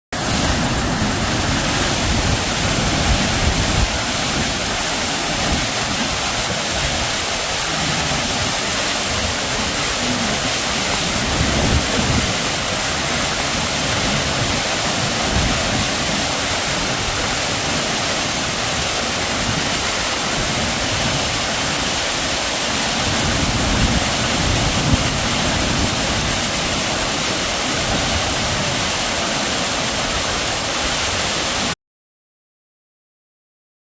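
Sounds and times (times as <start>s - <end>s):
waterfall rushing: 0.2s - 31.8s.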